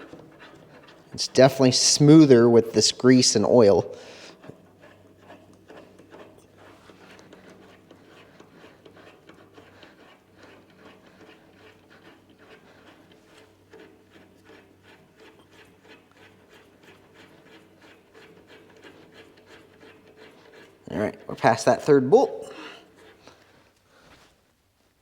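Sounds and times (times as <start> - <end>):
lathe slide ticking and rubbing: 0.0 - 24.3.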